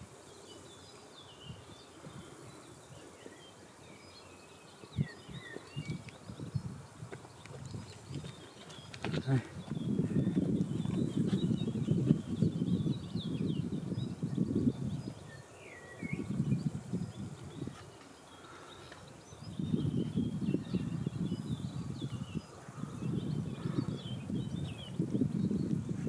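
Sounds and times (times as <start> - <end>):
small birds chirping: 0.0 - 26.0
wind rumbling on microphone: 0.8 - 3.4, 4.7 - 26.0.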